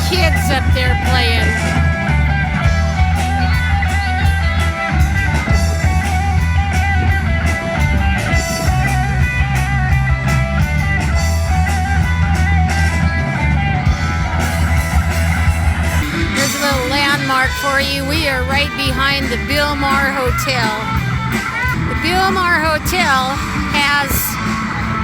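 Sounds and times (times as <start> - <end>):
bass guitar: 0.0 - 25.0
drum kit: 0.0 - 25.0
electric guitar melody: 0.0 - 25.0.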